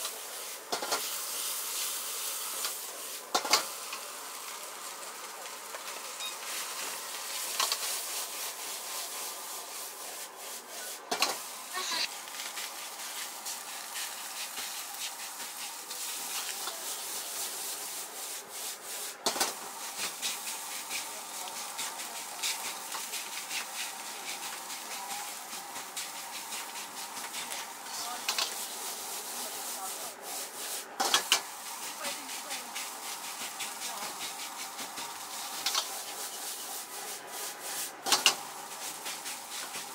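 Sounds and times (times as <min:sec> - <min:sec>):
rice sizzling: 0:00.0 - 0:39.9
ladle scraping a wok: 0:05.8 - 0:39.9.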